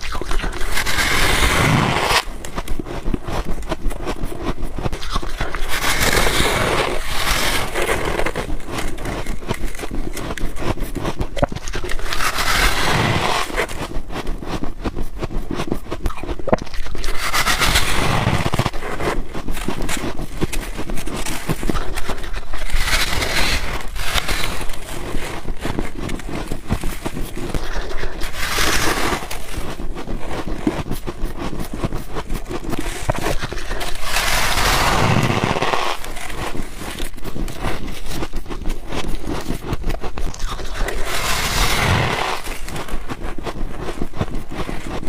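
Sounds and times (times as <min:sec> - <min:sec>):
chewing frost crunching: 0:00.0 - 0:45.0.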